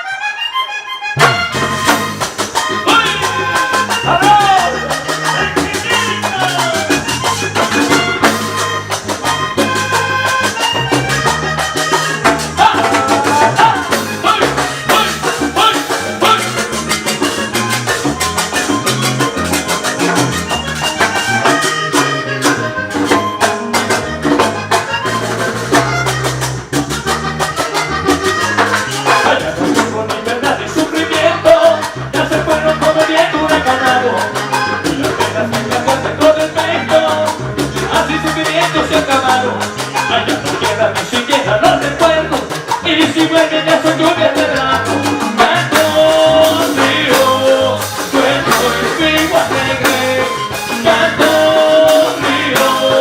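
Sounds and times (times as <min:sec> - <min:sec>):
upbeat latin band music: 0:00.0 - 0:53.0.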